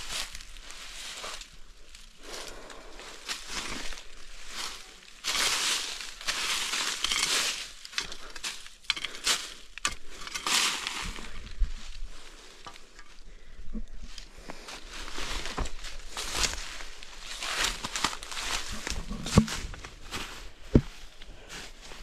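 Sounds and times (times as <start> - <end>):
footsteps crunching through dry leaves: 0.0 - 13.2, 14.0 - 22.0.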